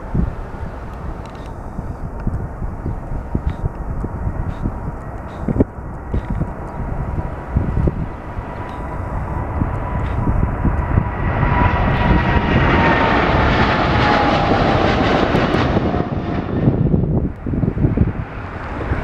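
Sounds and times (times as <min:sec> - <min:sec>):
jet engine whine dropping in pitch: 0:00.0 - 0:19.0
jet engines passing by: 0:00.0 - 0:19.0.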